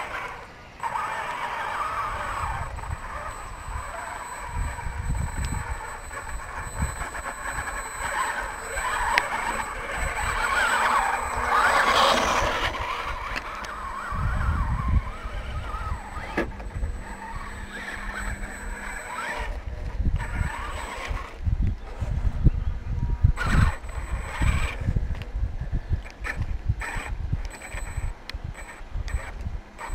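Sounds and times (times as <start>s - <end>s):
electric motor and gearbox whining: 0.0s - 29.9s.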